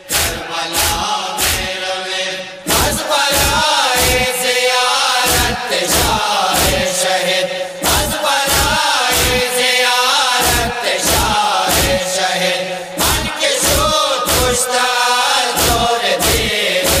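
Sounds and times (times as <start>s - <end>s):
sharp rhythmic beats: 0.0s - 1.9s, 2.7s - 9.7s, 10.3s - 14.8s, 15.5s - 17.0s
men chanting in unison: 0.0s - 17.0s.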